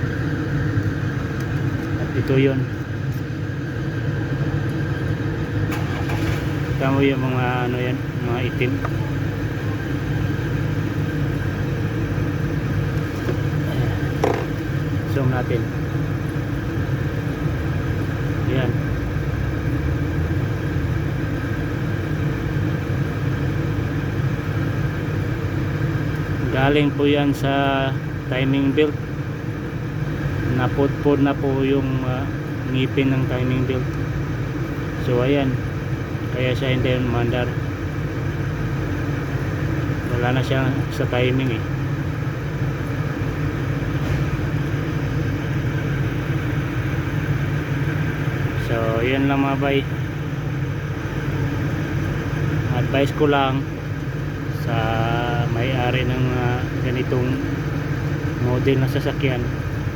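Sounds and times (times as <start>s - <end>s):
motor idling: 0.0s - 59.9s.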